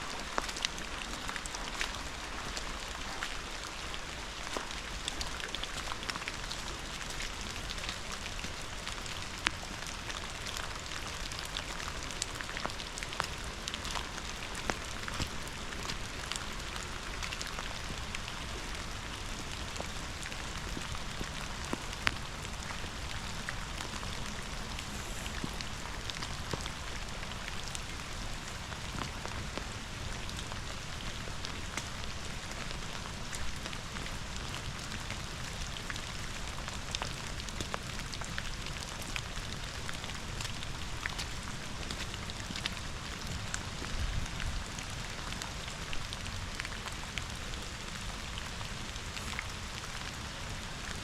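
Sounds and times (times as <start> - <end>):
steady rain falling: 0.0 - 51.0
raindrops tapping close by: 0.1 - 51.0.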